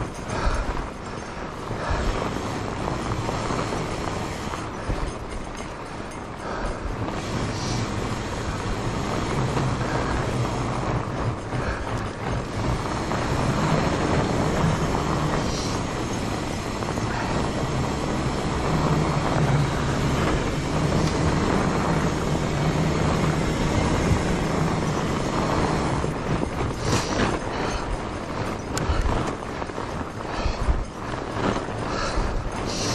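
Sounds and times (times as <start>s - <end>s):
bike tyres rolling over snow: 0.0s - 32.9s.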